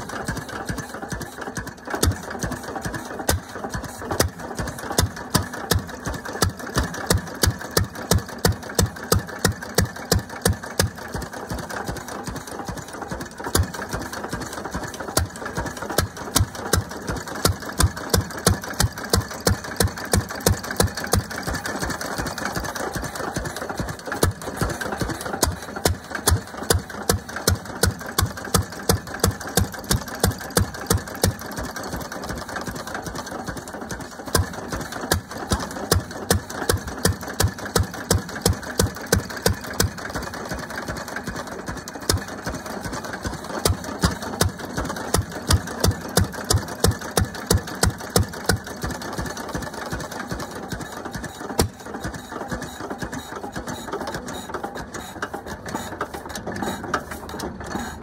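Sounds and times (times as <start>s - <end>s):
stationary engine exhaust beats: 0.0s - 58.0s.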